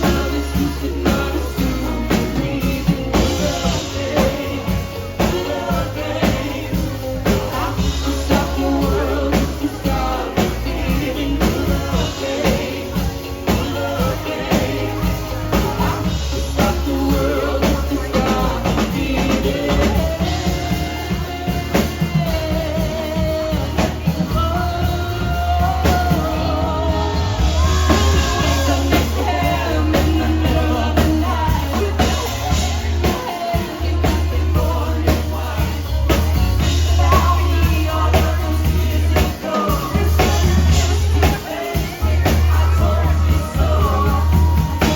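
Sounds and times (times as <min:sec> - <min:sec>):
bass notes: 0:00.0 - 0:44.9
drum kit beat: 0:00.0 - 0:44.9
person singing: 0:00.0 - 0:44.9.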